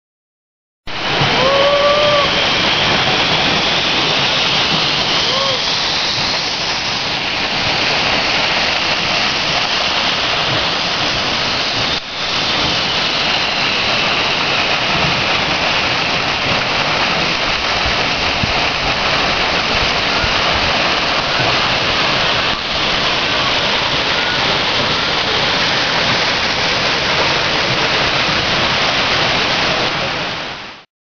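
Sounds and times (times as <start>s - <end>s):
waterfall roaring: 0.9s - 30.8s.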